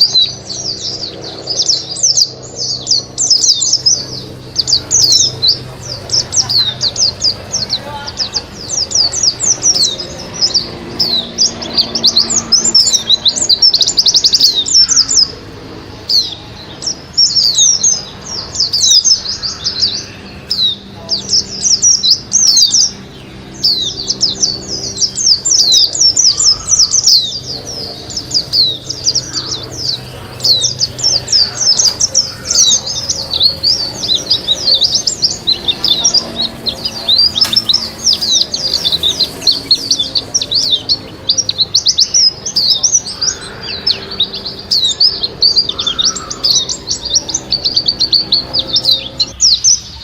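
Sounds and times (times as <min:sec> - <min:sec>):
bird high-pitched twittering: 0:00.0 - 0:50.0.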